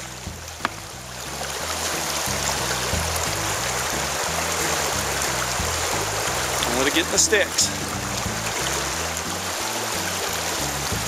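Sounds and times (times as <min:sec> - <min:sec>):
music with stepping bass line: 0:00.0 - 0:09.5
rushing river water: 0:00.0 - 0:11.0.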